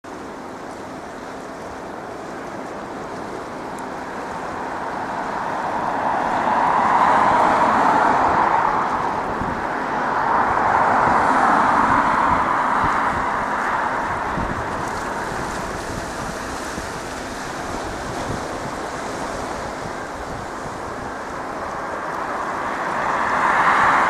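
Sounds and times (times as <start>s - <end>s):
jet engines roaring: 3.4s - 24.0s.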